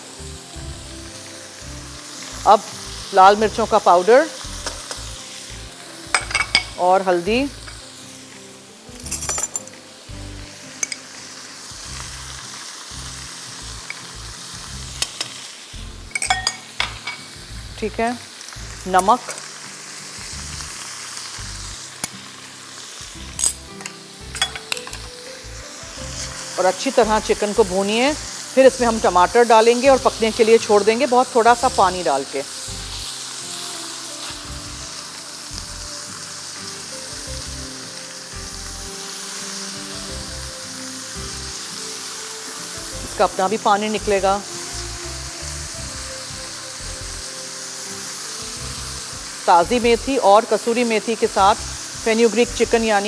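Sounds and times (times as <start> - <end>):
chicken sizzling in oil: 0.0 - 53.0.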